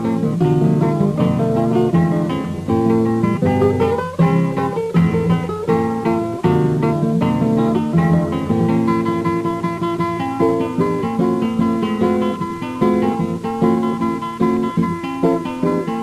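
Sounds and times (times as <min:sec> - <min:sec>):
fingerpicked acoustic guitar: 0:00.0 - 0:16.0.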